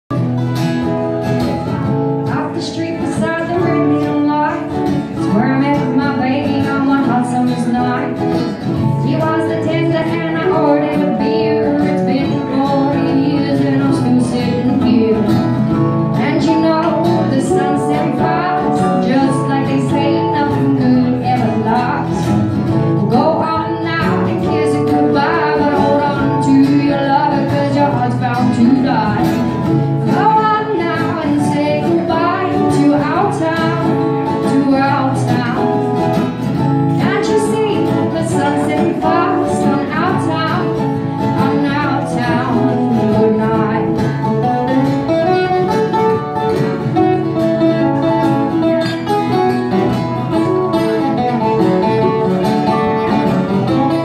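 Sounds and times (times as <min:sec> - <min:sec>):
plucked small string instrument: 0:00.1 - 0:54.0
strummed acoustic guitars: 0:00.1 - 0:54.0
woman singing: 0:02.2 - 0:54.0.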